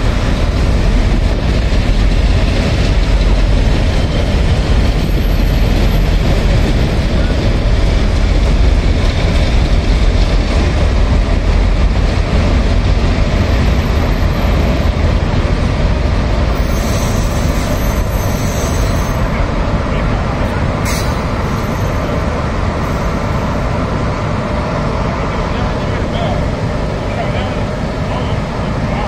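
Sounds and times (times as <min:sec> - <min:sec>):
train rumbling past: 0:00.0 - 0:29.0.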